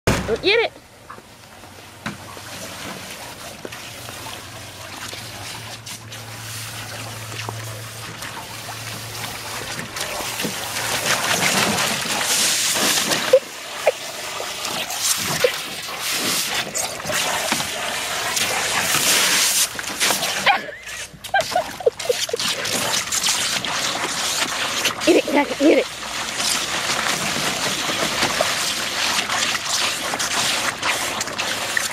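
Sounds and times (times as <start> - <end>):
hose water splashing into pool: 1.2 - 31.9.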